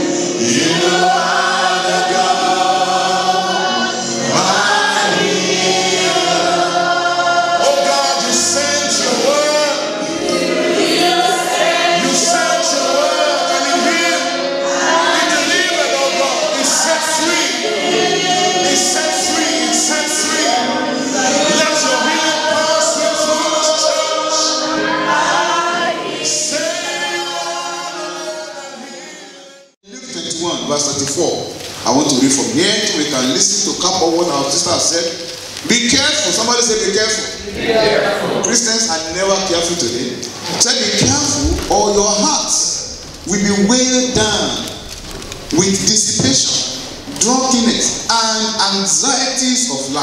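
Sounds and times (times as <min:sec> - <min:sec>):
choir singing gospel: 0:00.0 - 0:50.0
musical accompaniment: 0:00.0 - 0:50.0.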